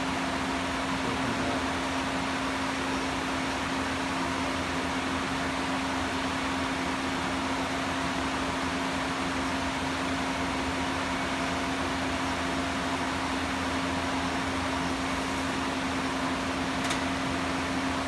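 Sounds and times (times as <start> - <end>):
factory machinery hum and hiss: 0.0 - 18.0.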